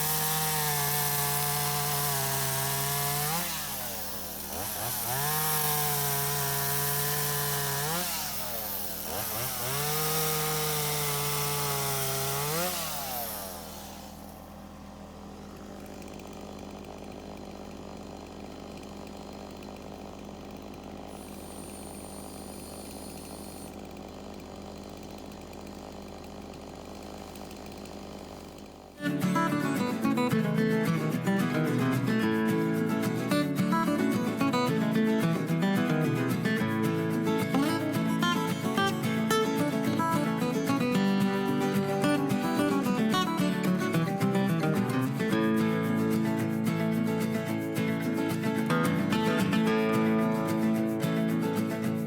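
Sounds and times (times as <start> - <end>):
chainsaw cutting: 0.0 - 52.0.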